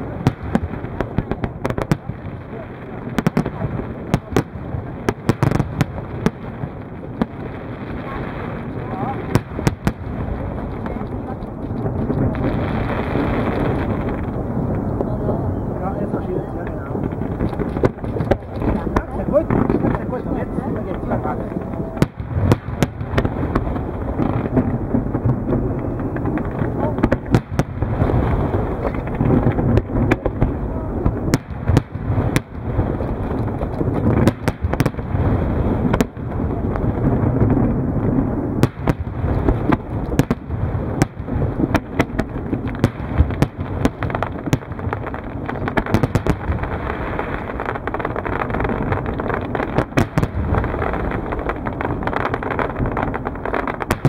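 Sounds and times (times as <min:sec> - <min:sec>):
fireworks cracks and bangs: 0:00.0 - 0:54.0
fireworks rumbling: 0:00.0 - 0:54.0.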